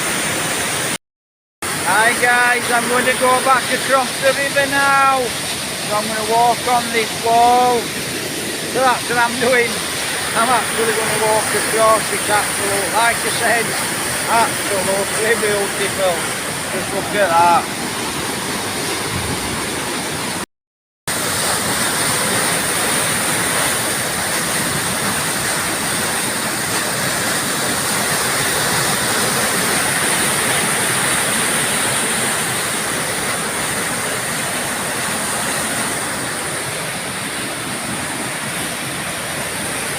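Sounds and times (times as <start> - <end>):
river water rushing over dam: 0.0 - 1.0, 1.7 - 20.4, 21.1 - 39.9.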